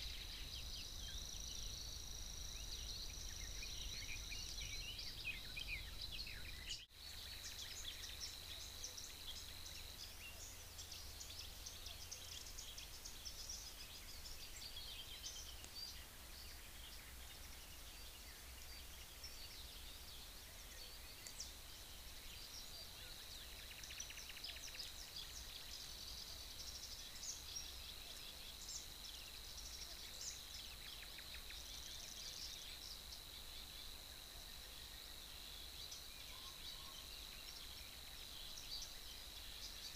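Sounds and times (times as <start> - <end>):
small birds chirping: 0.0 - 39.9
steady hiss: 0.0 - 39.9.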